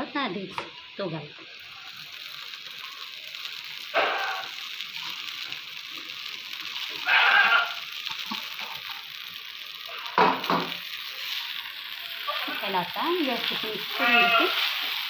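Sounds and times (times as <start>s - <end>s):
pan sizzling: 0.0s - 15.0s
louder short sounds over sizzle: 1.6s - 6.2s, 6.8s - 9.2s, 9.8s - 15.0s.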